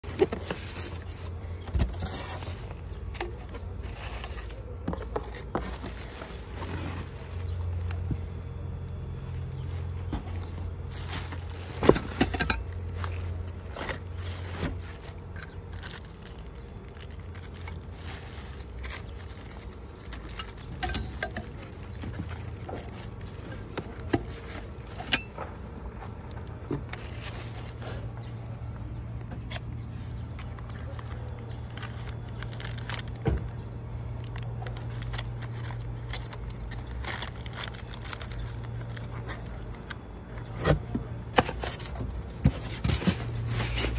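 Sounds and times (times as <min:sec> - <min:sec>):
cardboard and polystyrene scraping: 0:00.0 - 0:25.2, 0:26.4 - 0:28.1, 0:34.7 - 0:39.7, 0:40.4 - 0:43.9
plastic wrap crinkling: 0:00.0 - 0:40.6, 0:41.3 - 0:43.9.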